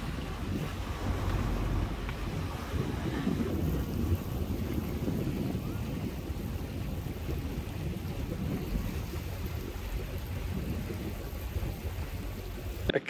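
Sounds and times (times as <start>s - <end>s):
water rushing past boat hull: 0.0s - 12.9s
wind buffeting microphone: 0.0s - 12.9s.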